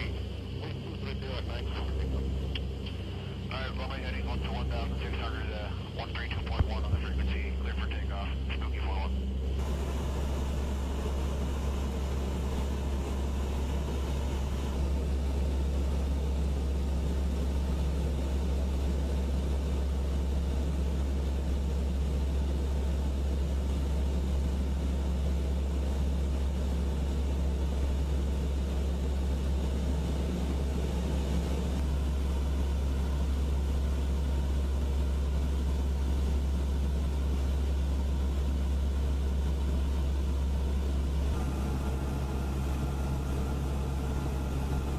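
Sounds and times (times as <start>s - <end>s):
aircraft engine drone: 0.0s - 44.9s.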